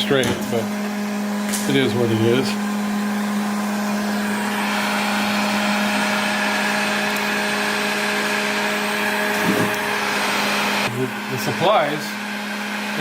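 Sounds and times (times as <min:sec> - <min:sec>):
heat gun blower hum: 0:00.0 - 0:13.0.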